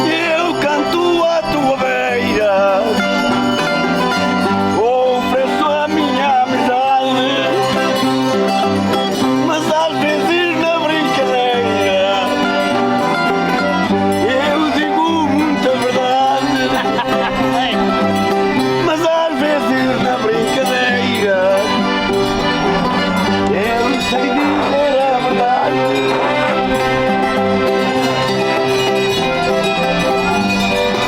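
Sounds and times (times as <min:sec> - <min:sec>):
people singing: 0:00.0 - 0:03.6, 0:04.7 - 0:08.5, 0:09.2 - 0:31.0
accordion: 0:00.0 - 0:31.0
plucked string instruments: 0:00.0 - 0:31.0.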